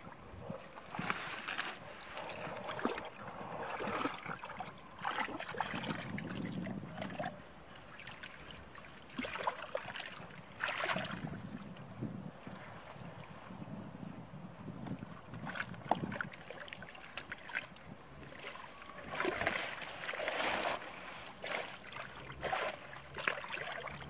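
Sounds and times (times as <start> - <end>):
hands sloshing through muddy water: 0.0 - 13.9, 15.2 - 24.0.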